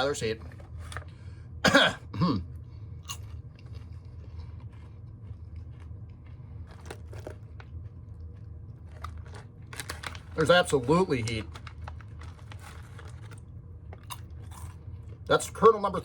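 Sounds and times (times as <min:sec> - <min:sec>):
popcorn crunching: 0:03.0 - 0:16.0.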